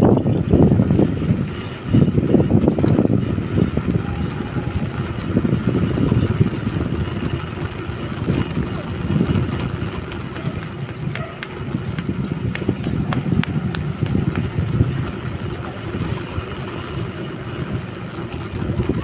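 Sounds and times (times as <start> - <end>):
tyre rumble on rough asphalt: 0.0 - 19.0
wind buffeting microphone: 0.0 - 19.0.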